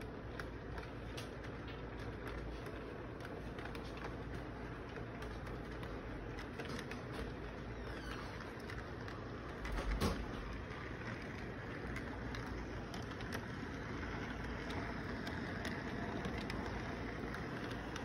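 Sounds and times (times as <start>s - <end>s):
wheels clicking over track joints: 0.0s - 18.0s.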